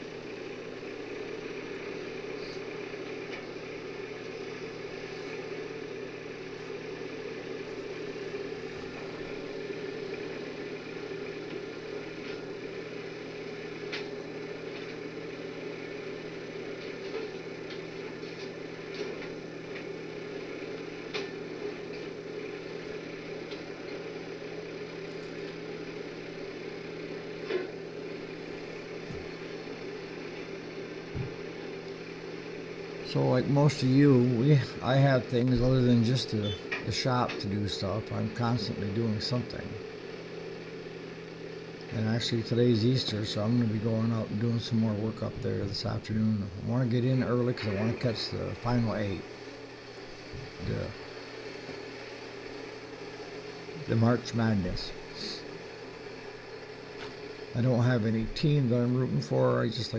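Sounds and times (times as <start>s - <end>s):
skid steer engine running: 0.0s - 59.9s.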